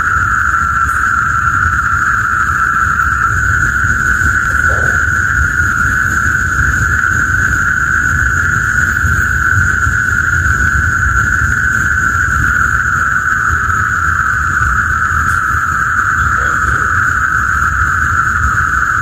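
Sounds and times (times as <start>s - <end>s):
frog chorus drone: 0.0s - 19.0s
high hiss: 0.0s - 19.0s.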